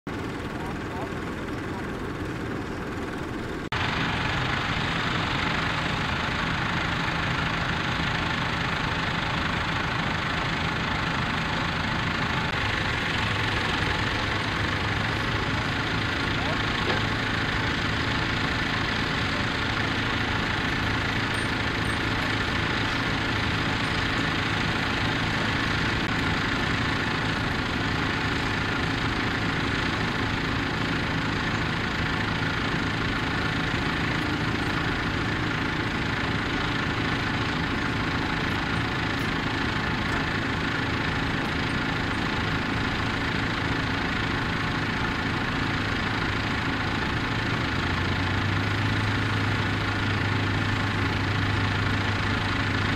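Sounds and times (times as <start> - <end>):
diesel tractor engines running: 0.1 - 52.9.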